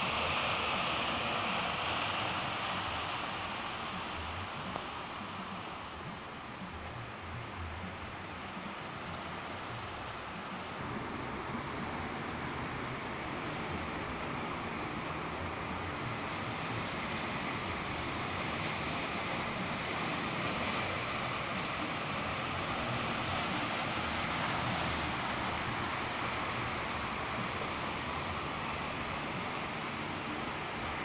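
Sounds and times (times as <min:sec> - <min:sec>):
waves washing over rocks: 0:00.0 - 0:31.0.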